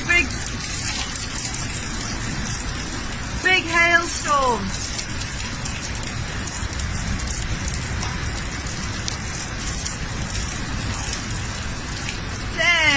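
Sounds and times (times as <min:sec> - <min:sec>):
heavy hail clattering on hard surfaces: 0:00.0 - 0:12.9.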